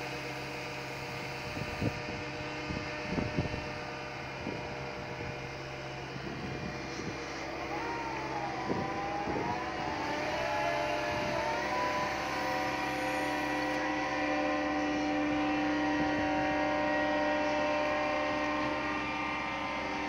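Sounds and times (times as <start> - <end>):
excavator engine and hydraulics whine: 0.0 - 20.0.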